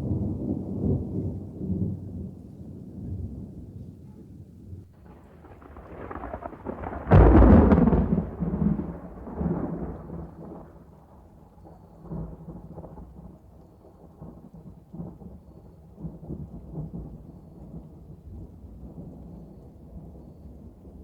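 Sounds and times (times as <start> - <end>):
thunder rumbling: 0.0 - 21.0.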